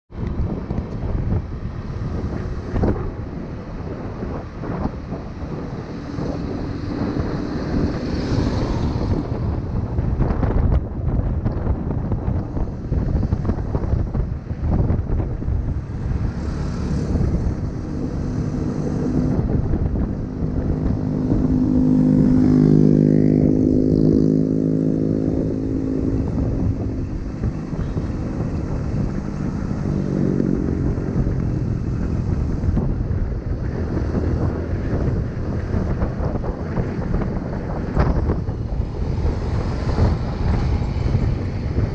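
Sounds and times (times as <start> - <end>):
engine hum: 0.1 - 41.9
low rumble: 0.1 - 41.9
wind buffeting microphone: 0.1 - 41.9.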